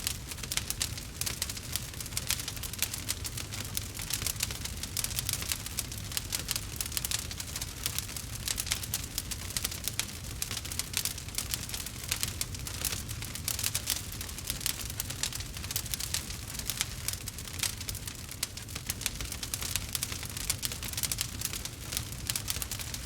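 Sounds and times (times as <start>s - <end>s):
campfire crackling and popping: 0.0s - 23.0s
low rumble of flames: 0.0s - 23.0s.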